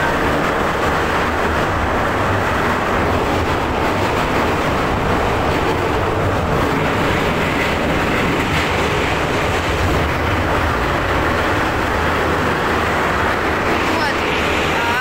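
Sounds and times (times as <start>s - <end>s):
metro train wheels rumbling on rails: 0.0s - 15.0s.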